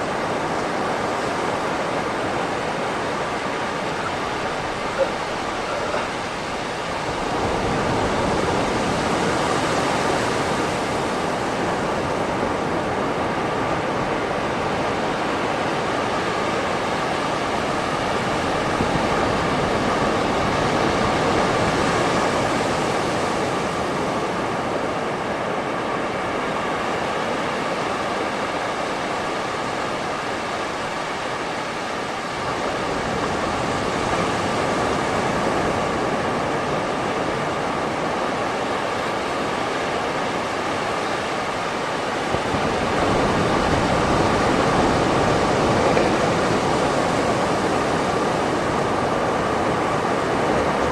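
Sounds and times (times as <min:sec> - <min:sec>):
sea waves washing onto beach: 0:00.0 - 0:50.9.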